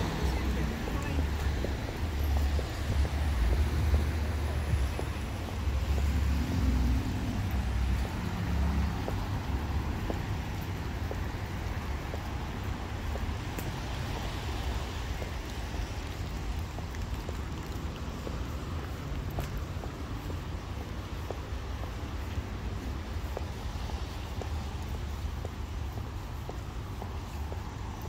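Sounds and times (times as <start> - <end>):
steady outdoor noise: 0.0 - 28.0.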